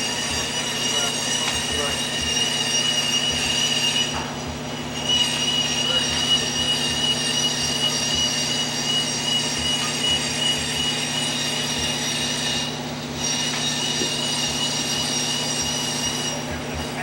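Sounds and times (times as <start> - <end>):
machine high-pitched whine: 0.0 - 17.0.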